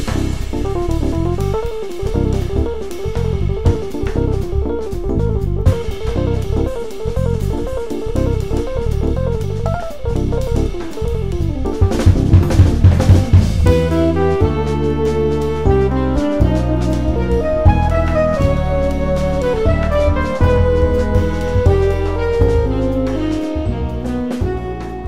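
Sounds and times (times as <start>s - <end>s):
rock music with drums and guitar: 0.0s - 25.0s.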